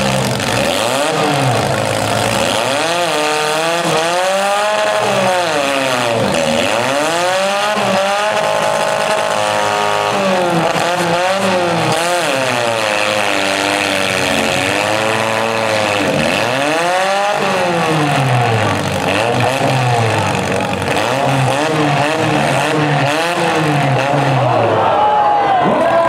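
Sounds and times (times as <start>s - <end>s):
car engines revving hard: 0.0s - 24.9s.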